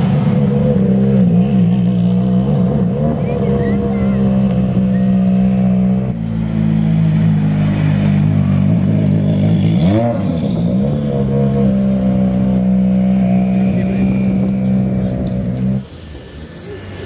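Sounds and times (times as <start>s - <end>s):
rally car engine revving: 0.0s - 16.8s.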